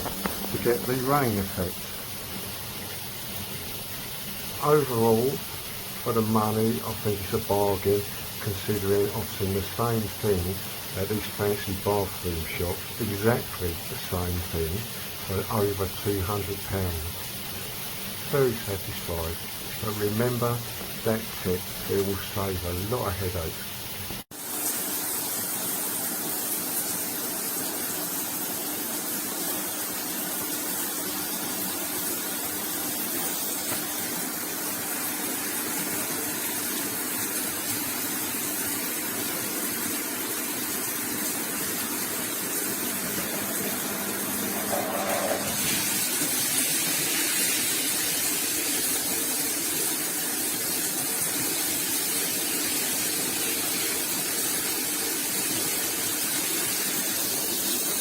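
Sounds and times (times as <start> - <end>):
shower water spraying: 0.0 - 58.0.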